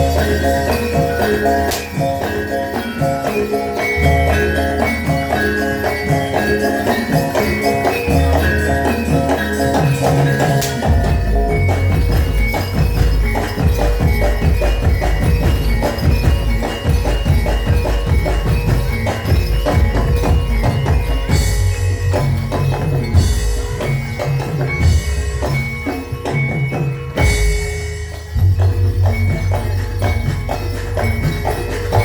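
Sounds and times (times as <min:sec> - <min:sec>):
drum strokes: 0:00.0 - 0:32.0
ringing metallophones: 0:00.0 - 0:32.0.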